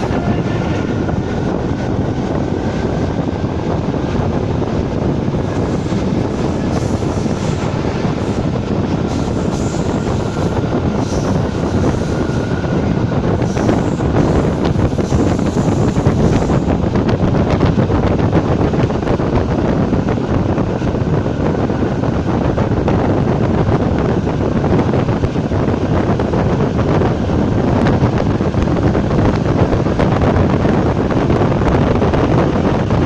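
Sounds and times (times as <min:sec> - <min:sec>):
train wheels rumbling on rails: 0:00.0 - 0:33.0
wind buffeting microphone: 0:00.0 - 0:33.0.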